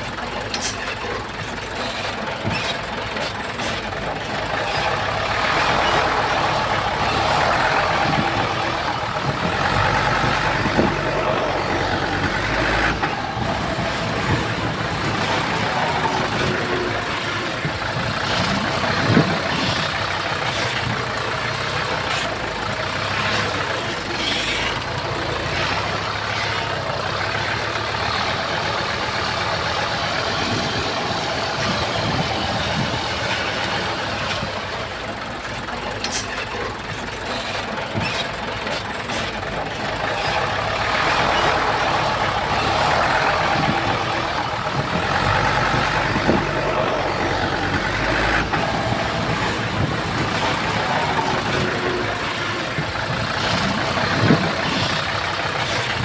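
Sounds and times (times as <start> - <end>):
heavy machinery diesel engine: 0.0 - 56.0.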